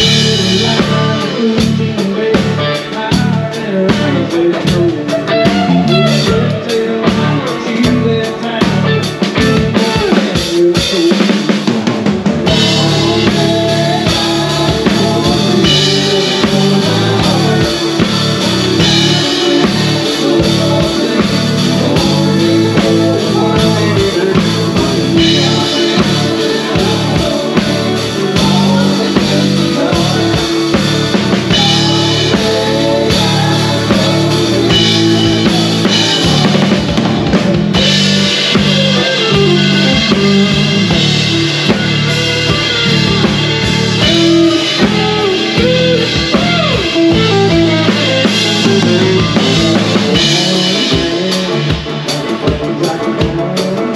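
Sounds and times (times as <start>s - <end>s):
country band playing: 0.0s - 53.9s
drum kit beat: 0.0s - 53.9s.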